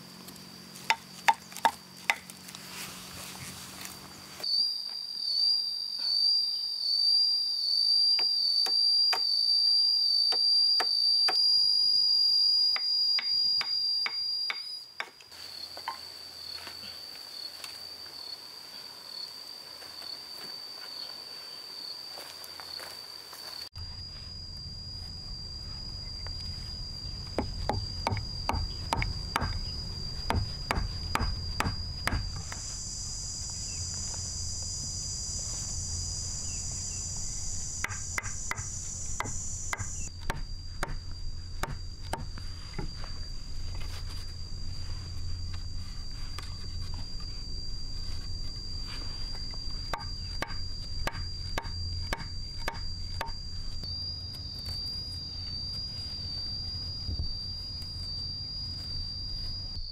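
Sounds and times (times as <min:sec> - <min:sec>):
higher insect drone: 0:00.0 - 0:59.9
insects droning: 0:00.0 - 0:59.9.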